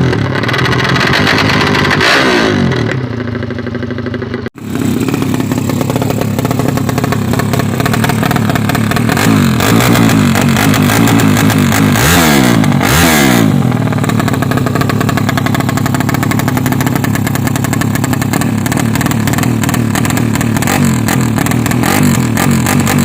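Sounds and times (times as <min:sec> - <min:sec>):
motorcycle engine idling: 0:00.0 - 0:23.0
motorcycle engine revving: 0:00.0 - 0:23.0.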